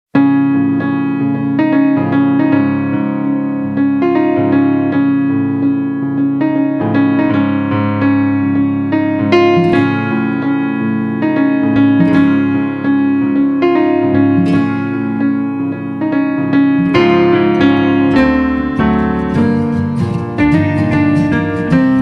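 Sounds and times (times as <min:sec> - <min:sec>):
piano music: 0:00.2 - 0:22.0.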